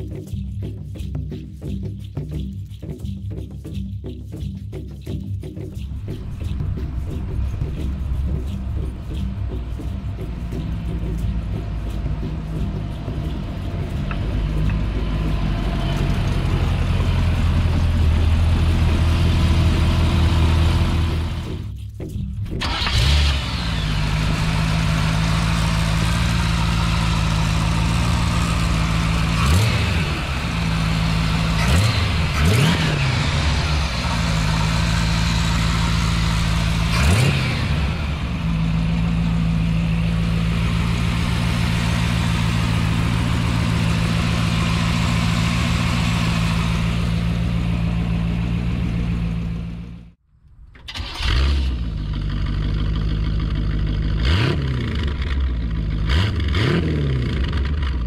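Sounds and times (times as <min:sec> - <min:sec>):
car engine idling and revving: 0:04.8 - 0:58.0.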